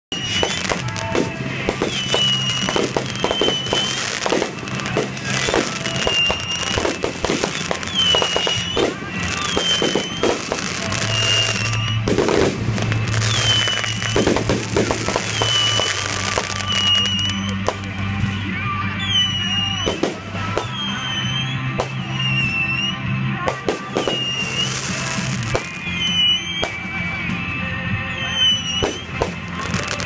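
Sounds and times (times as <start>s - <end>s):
fireworks bursting and crackling: 0.1s - 30.0s
music playing: 0.1s - 30.0s.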